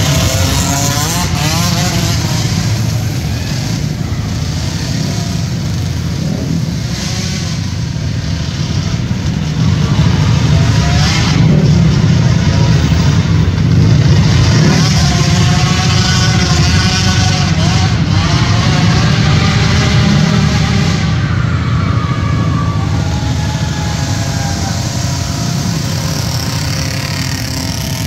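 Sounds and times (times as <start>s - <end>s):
small quad engines racing: 0.0s - 28.0s.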